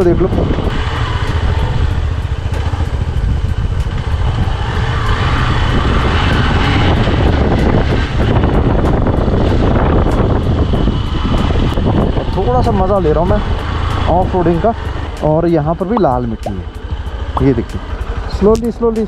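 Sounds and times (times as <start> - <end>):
motorcycle engine running: 0.0 - 19.0
wind rumble on microphone: 0.0 - 19.0.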